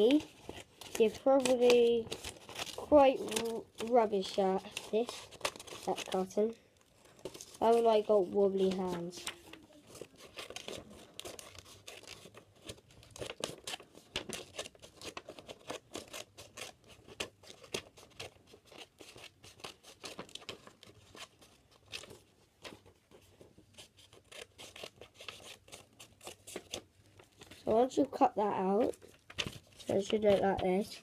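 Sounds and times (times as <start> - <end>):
scissors snipping paper: 0.0 - 6.3, 7.2 - 22.8, 23.8 - 27.5, 28.6 - 31.0
paper rustling: 0.0 - 31.0.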